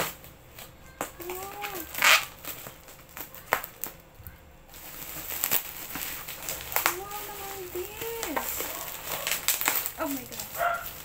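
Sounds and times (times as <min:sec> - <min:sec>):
bubble wrap crinkling and snapping: 0:00.0 - 0:11.0.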